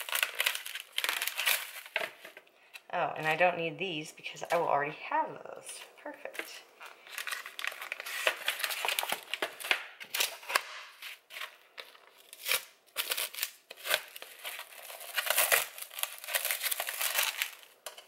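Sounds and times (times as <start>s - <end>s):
plastic packaging crinkling: 0.0s - 3.4s, 6.2s - 18.0s.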